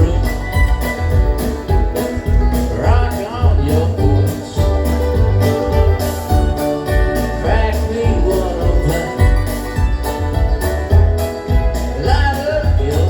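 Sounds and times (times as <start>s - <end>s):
live bluegrass band with singing: 0.0s - 13.0s.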